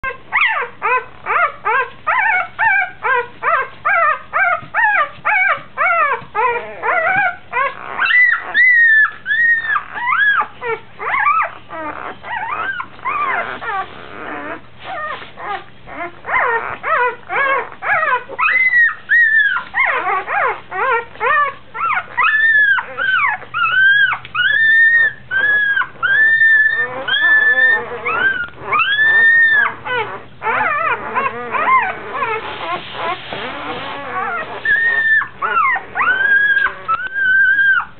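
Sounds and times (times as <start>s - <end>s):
puppy squeaking and wailing: 0.0s - 37.9s.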